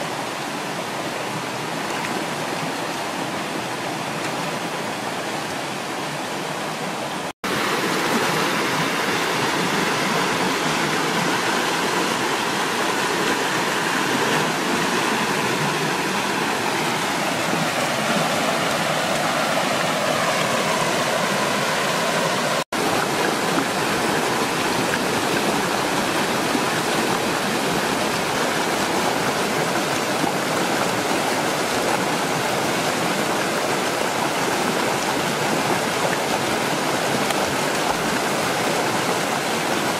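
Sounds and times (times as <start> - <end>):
river rushing over stones: 0.0 - 39.9.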